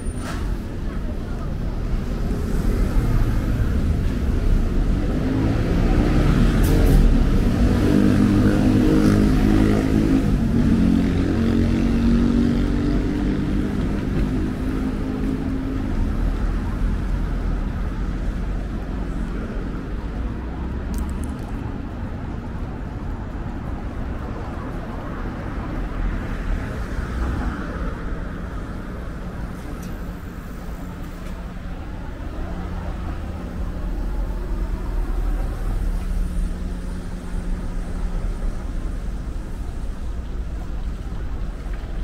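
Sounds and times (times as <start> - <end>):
road traffic rumble: 0.0 - 42.0.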